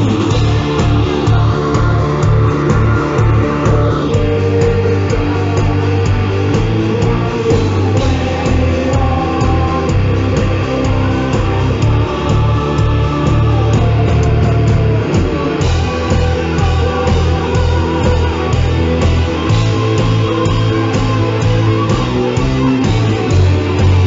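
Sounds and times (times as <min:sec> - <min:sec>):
heavy metal band playing live: 0:00.0 - 0:24.0.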